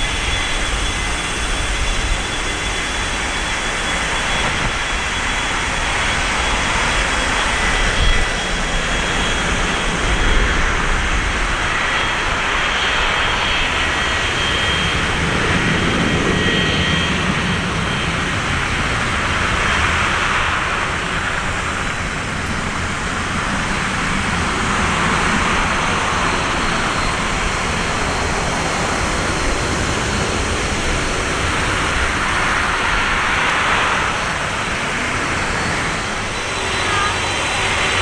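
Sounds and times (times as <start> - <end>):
jet engine rushing: 0.0 - 38.0.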